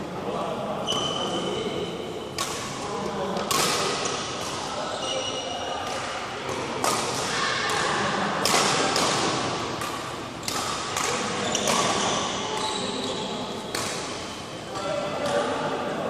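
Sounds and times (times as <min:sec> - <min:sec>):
sharp knocks echoing in hall: 0:01.0 - 0:16.0.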